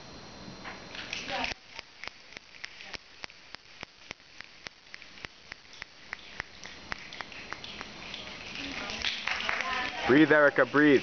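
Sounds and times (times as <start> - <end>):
audience clapping slowly: 1.0 - 11.0.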